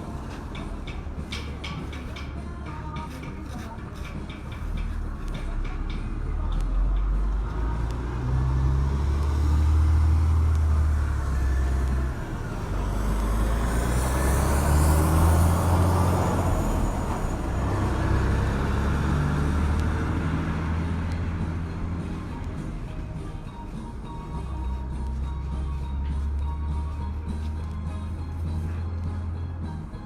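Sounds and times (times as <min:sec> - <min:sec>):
heavy engine humming: 0:00.0 - 0:30.0.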